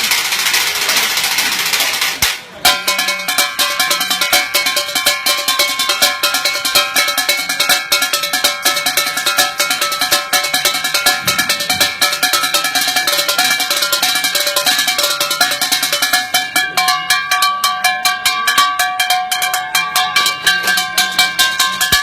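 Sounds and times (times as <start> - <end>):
percussion on everyday objects: 0.0 - 22.0.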